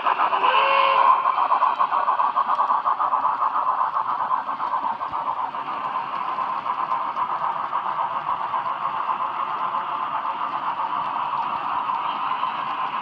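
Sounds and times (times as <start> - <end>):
model train wheels whirring clatter: 0.0 - 13.0.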